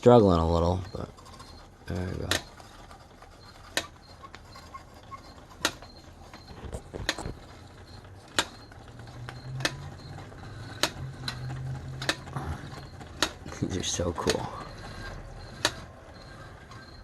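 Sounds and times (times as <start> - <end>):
toy steam engine labouring: 0.0 - 17.0.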